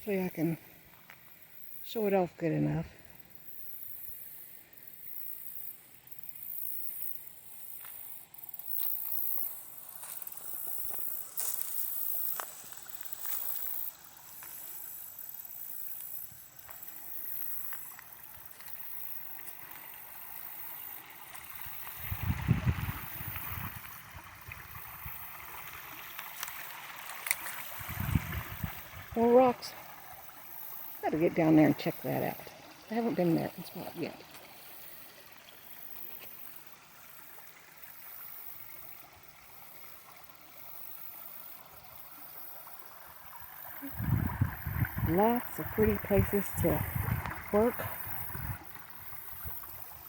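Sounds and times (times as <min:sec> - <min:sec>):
creek water running over rocks: 0:00.0 - 0:50.0.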